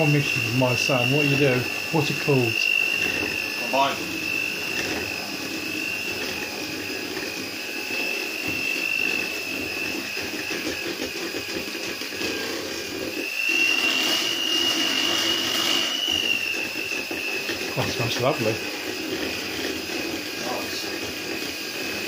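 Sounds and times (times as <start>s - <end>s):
electric mixer whining: 0.0s - 22.0s.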